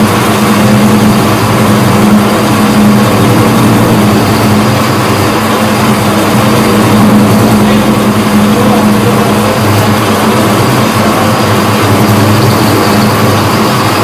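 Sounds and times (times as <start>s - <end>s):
metal lathe motor humming: 0.0s - 14.0s.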